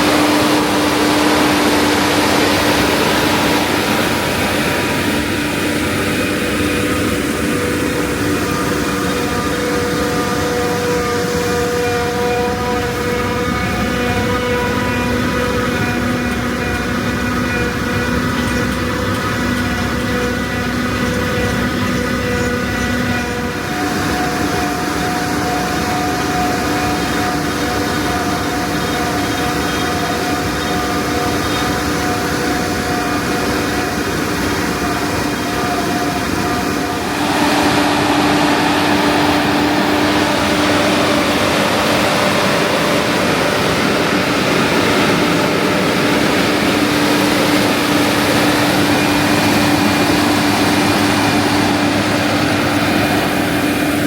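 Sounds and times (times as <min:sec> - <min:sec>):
diesel farm machinery running: 0:00.0 - 0:54.0.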